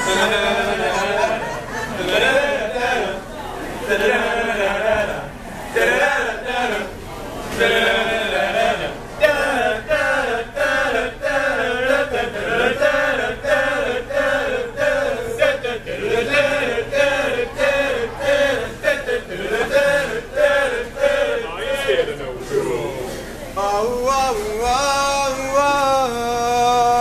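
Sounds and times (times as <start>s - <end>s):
male group singing in harmony: 0.0s - 27.0s.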